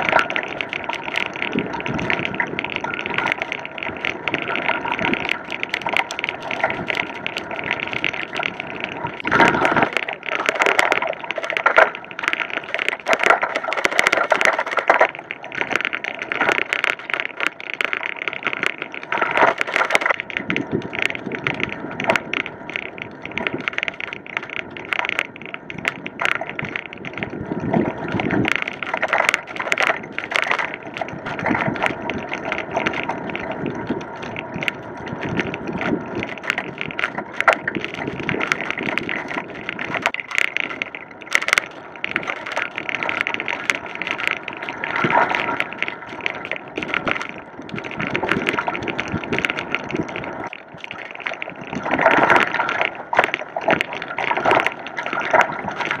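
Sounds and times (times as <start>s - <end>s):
bicycle tyres crunching on gravel: 0.0s - 56.0s
bike rattling over bumps: 0.0s - 56.0s.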